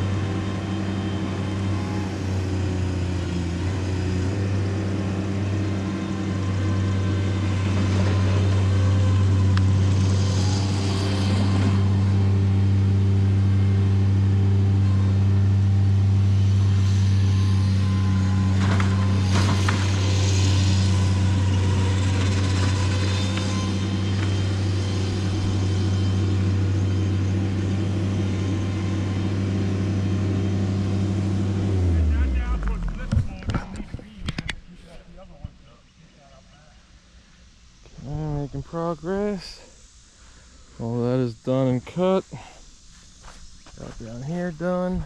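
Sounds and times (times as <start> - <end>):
engine humming steadily: 0.0 - 45.0.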